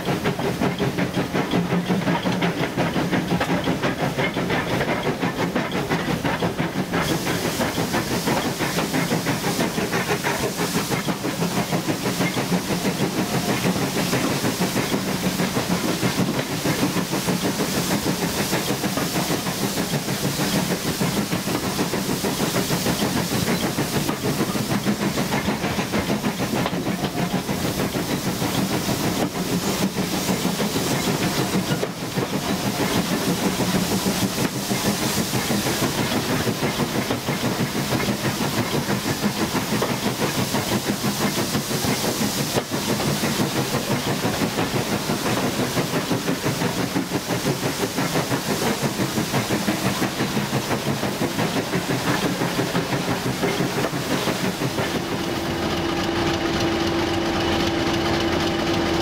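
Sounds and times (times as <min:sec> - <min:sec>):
steam hiss: 0:00.0 - 0:59.0
steam locomotive exhaust: 0:00.0 - 0:59.0
wheels on rail: 0:00.0 - 0:59.0.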